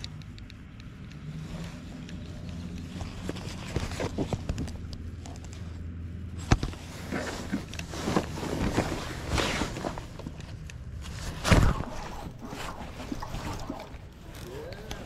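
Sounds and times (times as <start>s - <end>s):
fishing gear knocking and rustling: 0.0s - 15.0s.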